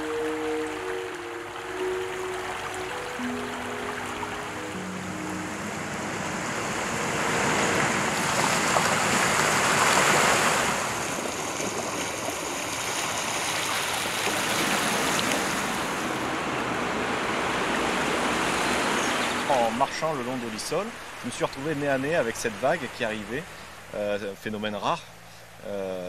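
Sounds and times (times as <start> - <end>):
river water rushing: 0.0 - 25.7.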